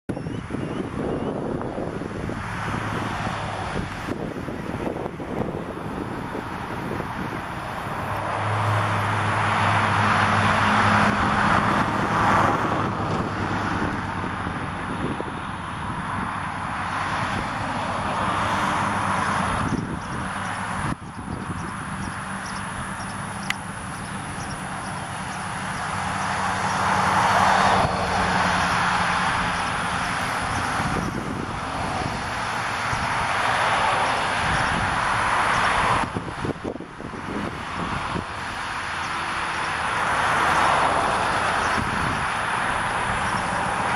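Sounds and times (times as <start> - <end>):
vehicle passing: 0.2 - 43.9.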